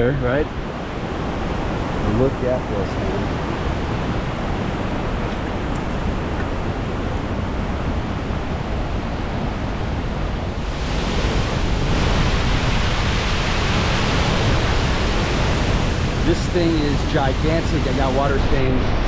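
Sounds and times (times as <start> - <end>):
waterfall rushing: 0.1 - 19.0.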